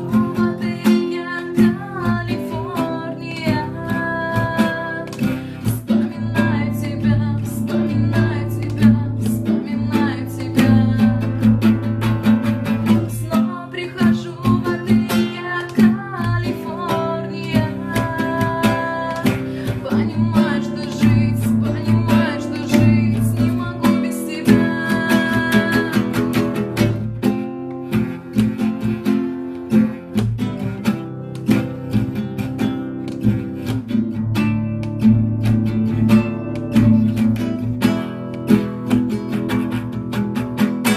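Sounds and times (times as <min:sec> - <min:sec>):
plucked string notes: 0:00.0 - 0:40.9.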